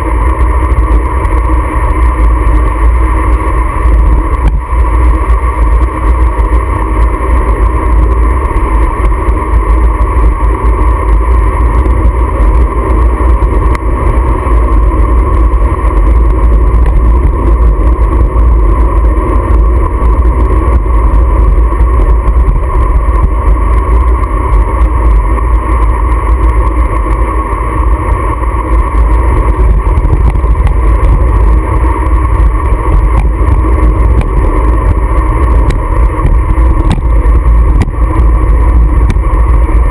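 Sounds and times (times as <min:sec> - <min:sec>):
steady drone: 0:00.0 - 0:39.9
wind rushing over microphone: 0:00.0 - 0:39.9.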